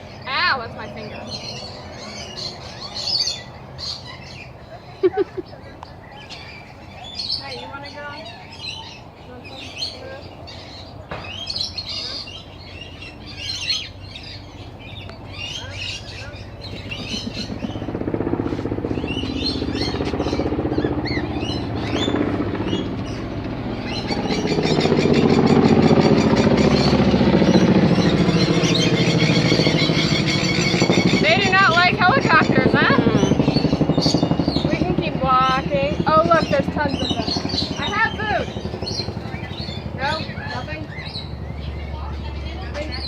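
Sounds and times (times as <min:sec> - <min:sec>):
birds chirping: 0:00.0 - 0:43.0
helicopter passing overhead: 0:00.0 - 0:43.0.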